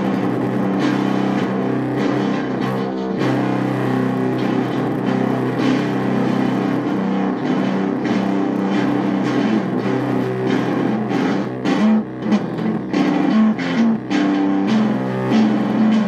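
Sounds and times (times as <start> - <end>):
electric guitar playing rock: 0.0 - 16.0.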